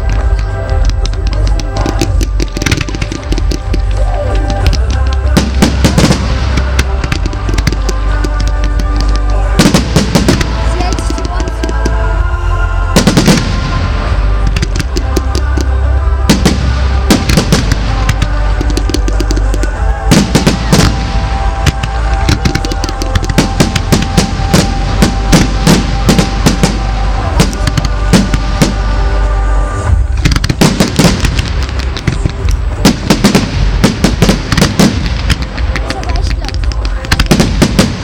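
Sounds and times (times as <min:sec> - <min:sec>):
firework bangs and crackles: 0:00.0 - 0:38.0
loud music with heavy bass: 0:00.0 - 0:38.0.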